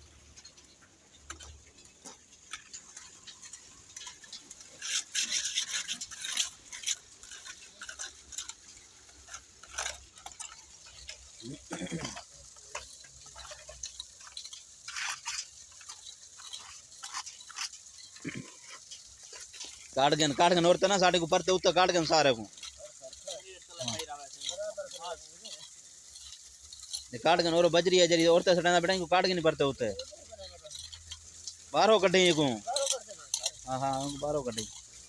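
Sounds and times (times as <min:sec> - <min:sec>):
hand tools scraping concrete: 0:00.0 - 0:35.0.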